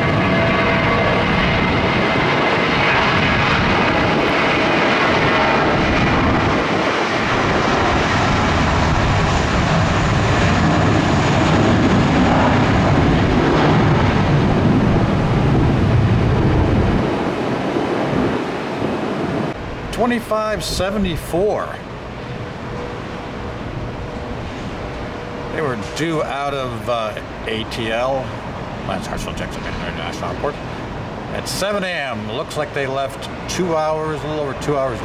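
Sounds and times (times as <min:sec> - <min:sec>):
jet airliner engines: 0:00.0 - 0:35.0.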